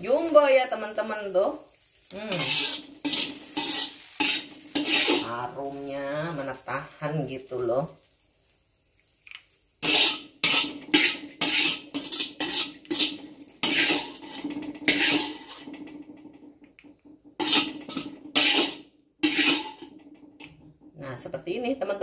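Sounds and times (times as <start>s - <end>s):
metal spatula scraping a wok: 0.0s - 7.6s, 9.8s - 20.8s.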